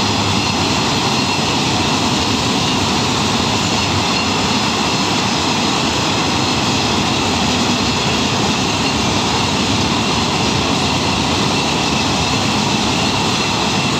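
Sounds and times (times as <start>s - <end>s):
train rumble and hiss: 0.0s - 13.9s.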